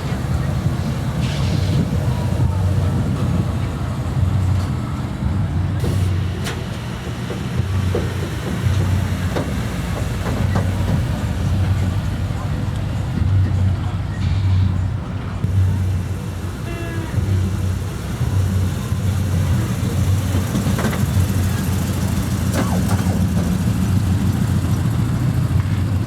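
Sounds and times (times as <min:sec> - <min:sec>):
car driving slowly past: 0:00.0 - 0:26.0.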